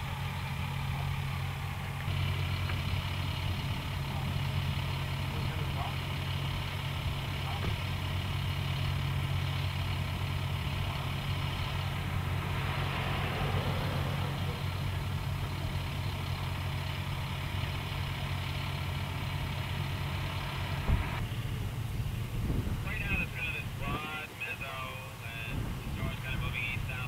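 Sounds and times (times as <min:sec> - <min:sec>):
truck engine idling hum: 0:00.0 - 0:27.0.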